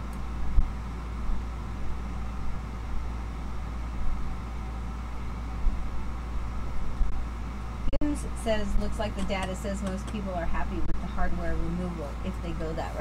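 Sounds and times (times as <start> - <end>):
low machine hum with hiss: 0.0 - 13.0.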